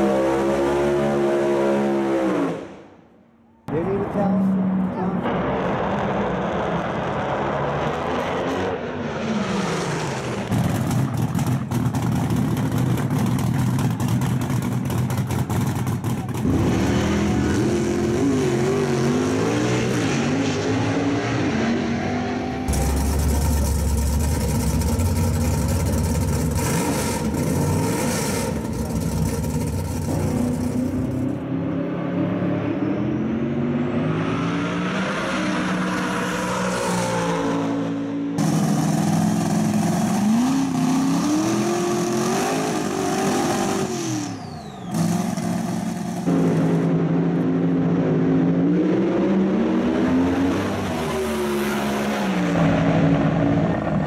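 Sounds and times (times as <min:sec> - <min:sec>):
race car engines accelerating: 0:03.7 - 0:54.0.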